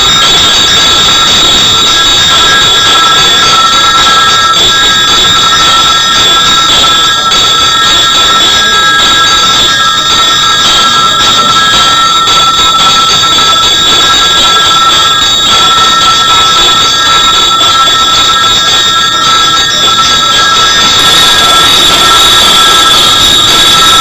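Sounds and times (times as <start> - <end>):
temple bells ringing: 0.0 - 24.0.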